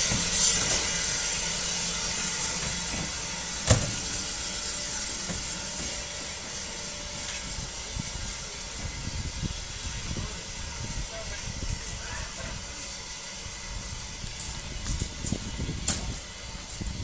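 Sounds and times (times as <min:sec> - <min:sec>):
steady hiss of steam: 0:00.0 - 0:17.0
train coaches rolling past: 0:00.0 - 0:17.0.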